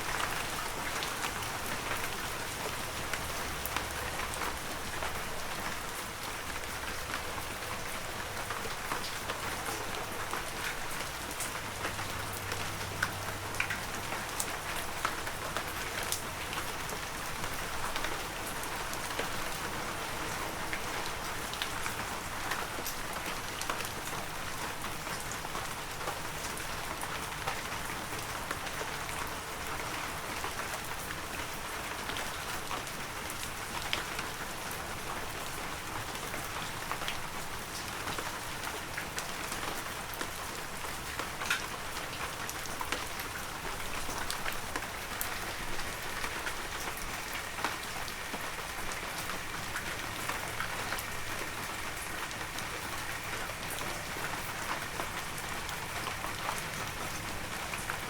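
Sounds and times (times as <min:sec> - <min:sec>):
raindrops ticking on surfaces: 0:00.0 - 0:58.0.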